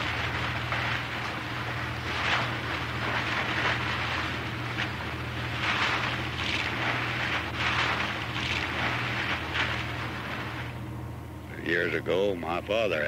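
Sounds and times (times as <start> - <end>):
water splashing over deck: 0.0 - 10.8
towboat engines droning: 0.0 - 13.0.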